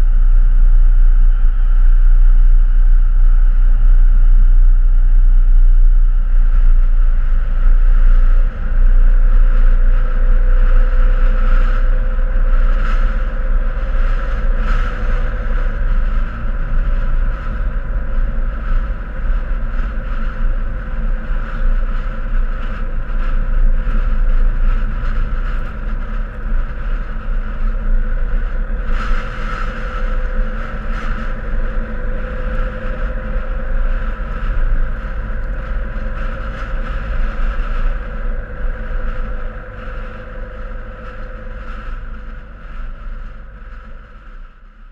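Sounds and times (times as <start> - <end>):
vehicle engine and tyre noise: 0.0 - 44.9.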